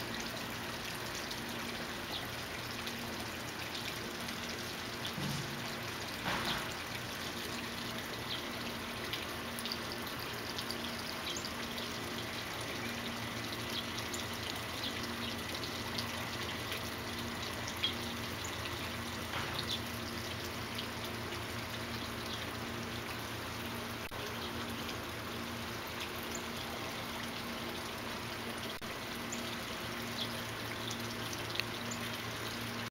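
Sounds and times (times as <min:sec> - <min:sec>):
running water trickling: 0:00.0 - 0:32.9.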